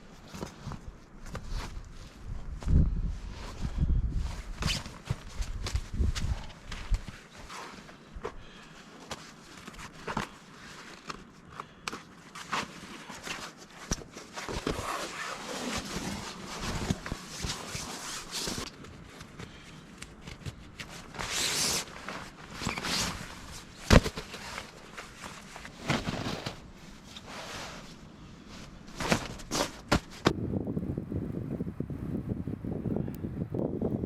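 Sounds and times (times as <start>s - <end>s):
rustles and scrapes: 0.0s - 30.4s.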